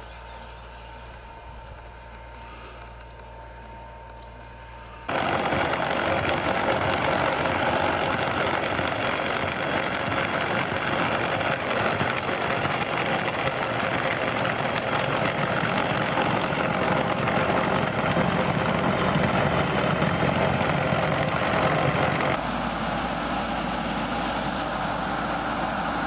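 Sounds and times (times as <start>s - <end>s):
loud rattly engine running: 5.1s - 26.0s.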